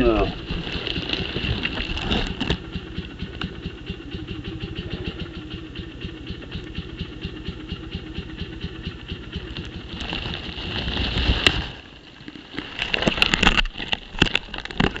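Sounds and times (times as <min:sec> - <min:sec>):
dirt bike engine idling: 0:00.0 - 0:12.1.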